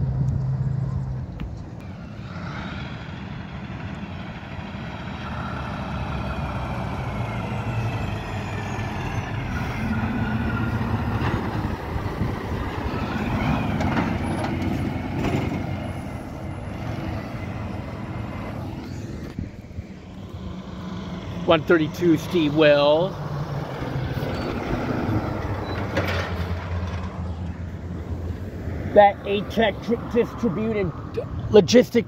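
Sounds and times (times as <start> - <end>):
diesel truck passing: 0.0 - 32.0
rising whining tone: 1.8 - 29.4.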